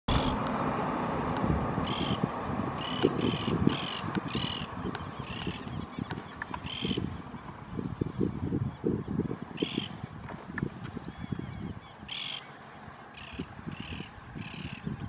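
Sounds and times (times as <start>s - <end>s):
harsh caw-like bird calls: 0.1s - 0.4s, 1.8s - 7.4s, 8.0s - 10.2s, 10.8s - 15.0s
low uneven rumble: 0.1s - 15.0s.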